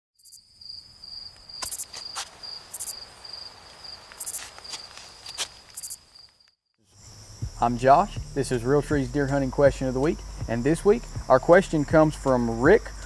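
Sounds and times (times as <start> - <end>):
cricket trill: 0.2 - 13.0
insect rasping: 0.2 - 13.0.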